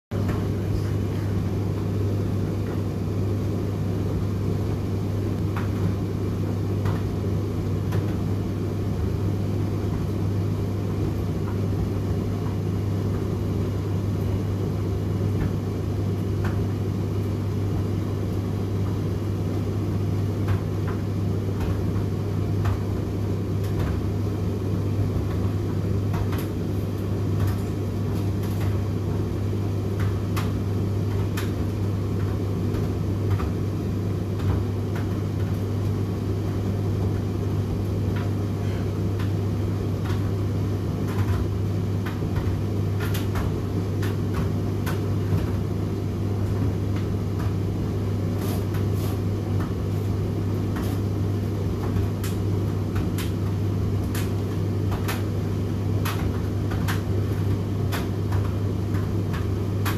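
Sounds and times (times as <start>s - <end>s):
tumble dryer hum and rumble: 0.0s - 59.9s.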